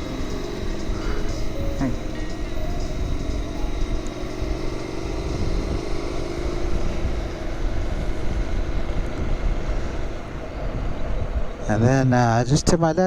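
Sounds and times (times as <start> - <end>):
motorcycle engine running: 0.0 - 11.8
road rumble: 0.0 - 13.0
wind: 0.0 - 13.0.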